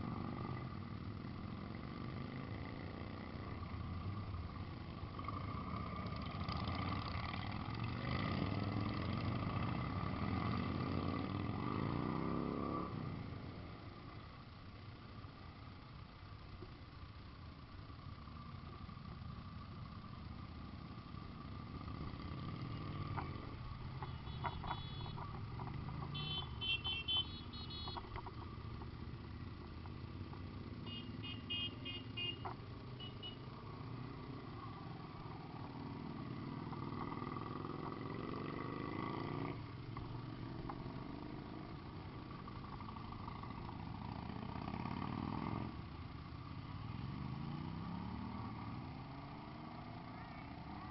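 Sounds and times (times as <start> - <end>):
motorcycle engines revving: 0.0 - 16.2, 17.0 - 50.9.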